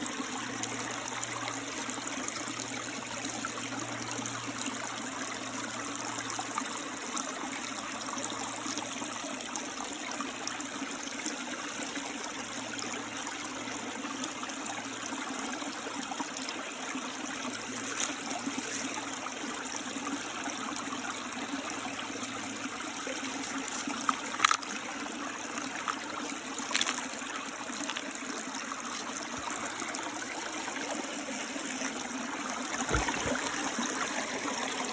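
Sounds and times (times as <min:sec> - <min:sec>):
creek trickling over rocks: 0:00.0 - 0:34.9.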